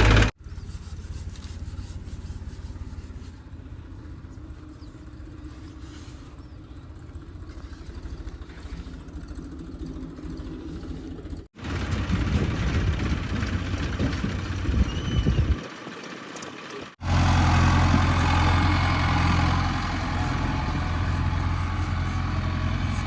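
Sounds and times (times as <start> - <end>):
diesel engine running: 0.0 - 0.4, 3.3 - 23.0.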